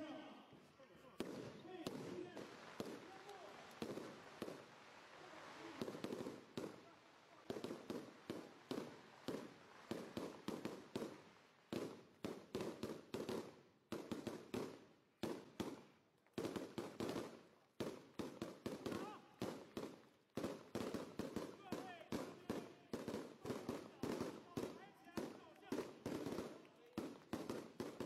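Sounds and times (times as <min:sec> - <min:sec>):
firecrackers banging: 0:01.0 - 0:28.0.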